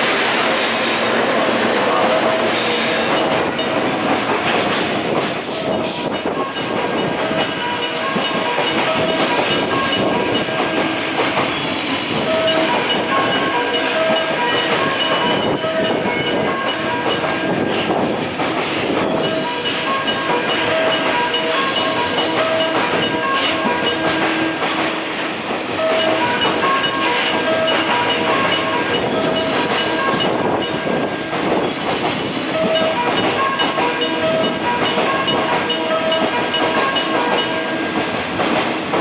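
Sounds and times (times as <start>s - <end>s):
train wheels rushing on rails: 0.0s - 39.0s.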